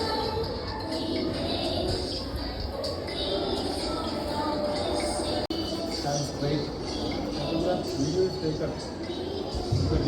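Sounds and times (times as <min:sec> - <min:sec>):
steady hazy background noise: 0:00.0 - 0:10.0.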